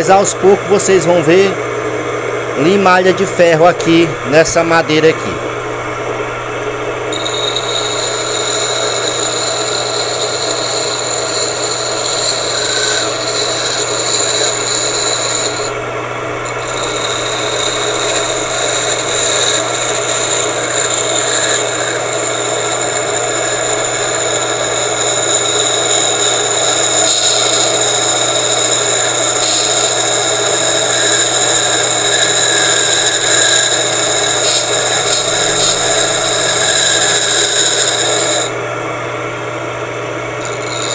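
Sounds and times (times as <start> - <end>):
motor humming: 0.0 - 40.9
tool scraping spinning metal: 2.6 - 38.6, 40.4 - 40.9.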